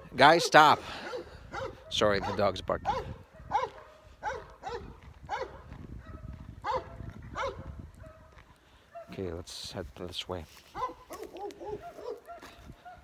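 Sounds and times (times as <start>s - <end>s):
dog barking: 0.2s - 9.3s, 10.7s - 13.0s.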